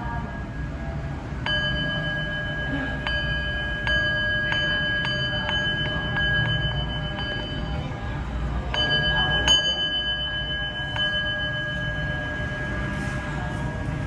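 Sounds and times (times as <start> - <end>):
bowl bell ringing: 0.0 - 14.0.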